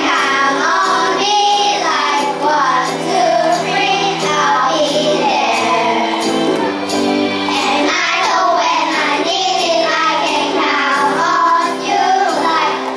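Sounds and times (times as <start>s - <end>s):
children singing: 0.0s - 12.9s
instrumental backing track: 0.0s - 12.9s.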